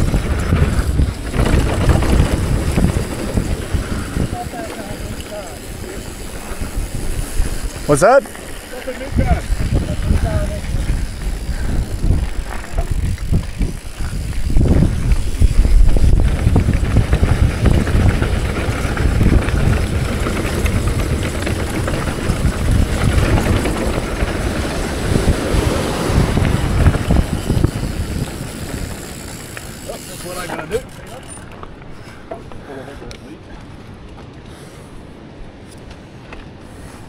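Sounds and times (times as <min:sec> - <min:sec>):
wind noise on microphone: 0:00.0 - 0:32.3
bike tyre rumble and rattle: 0:00.0 - 0:37.0.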